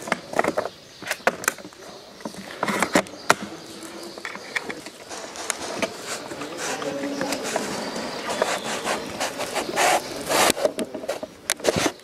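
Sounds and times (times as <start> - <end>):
rubbing and scraping handling: 0.0 - 12.0.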